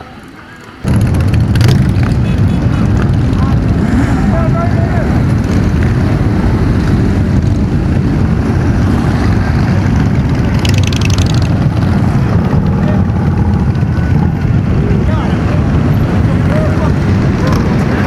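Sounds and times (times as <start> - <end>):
motorcycle engines rumbling: 0.0 - 18.0.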